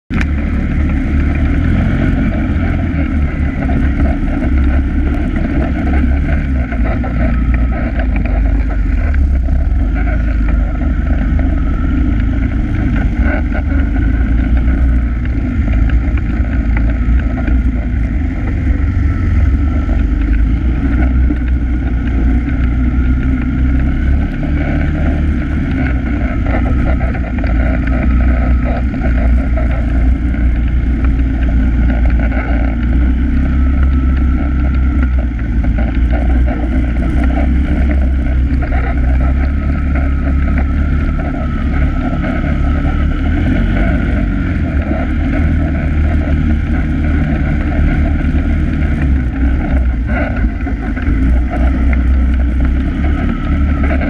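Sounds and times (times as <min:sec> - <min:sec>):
quad engine droning: 0:00.0 - 0:54.0.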